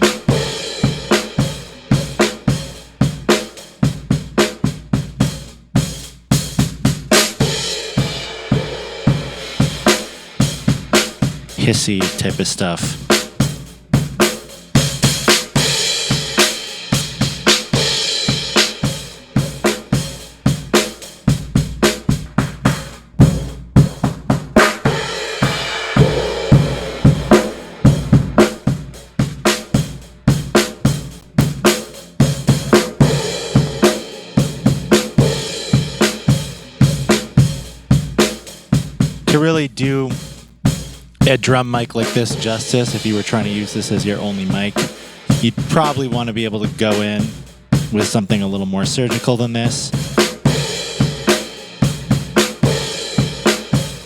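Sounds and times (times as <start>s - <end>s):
drum kit groove: 0.0s - 54.0s.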